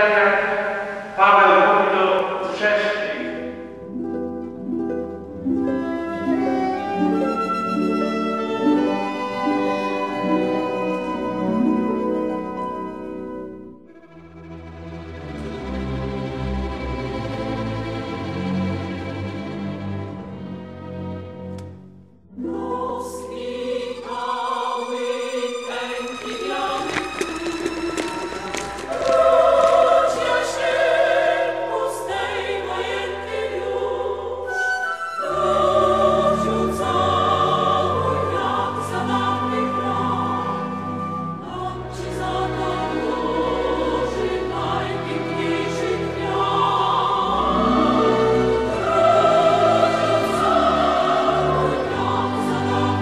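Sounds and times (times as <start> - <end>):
choir singing: 0.0 - 21.5, 22.3 - 53.0.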